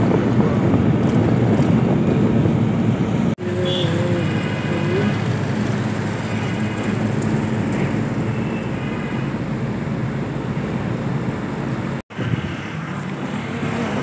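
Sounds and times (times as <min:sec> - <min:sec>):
road noise: 0:00.0 - 0:14.0
vehicle engine hum: 0:00.0 - 0:14.0.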